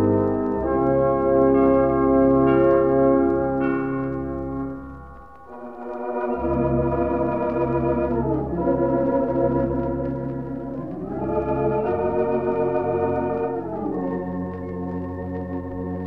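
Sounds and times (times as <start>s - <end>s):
theatre organ holding chords: 0.0s - 16.0s.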